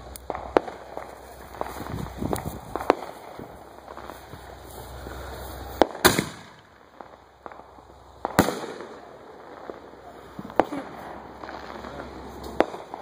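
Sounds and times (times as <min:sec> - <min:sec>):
fireworks pops and crackle: 0:00.0 - 0:13.0
fireworks sharp bangs: 0:00.0 - 0:13.0.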